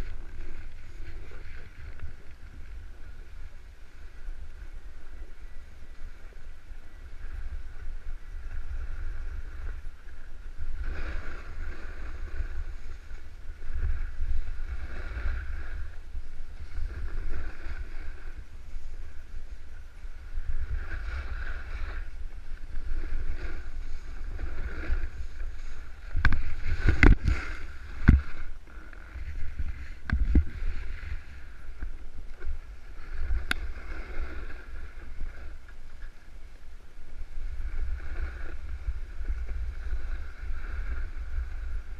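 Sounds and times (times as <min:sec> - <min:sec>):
snowboard scraping snow: 0:00.0 - 0:36.1, 0:37.2 - 0:41.9
wind rumble on microphone: 0:00.0 - 0:41.9.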